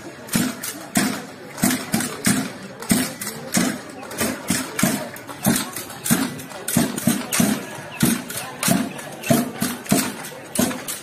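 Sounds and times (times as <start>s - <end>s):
drum marching beat: 0.0s - 11.0s.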